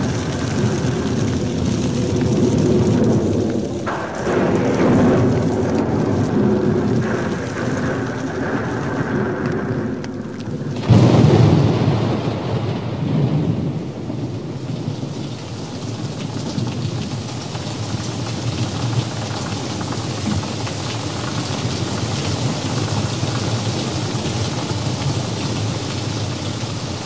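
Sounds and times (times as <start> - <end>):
low thunder rumble: 0.0 - 27.0
steady rain-like rushing: 0.0 - 27.0.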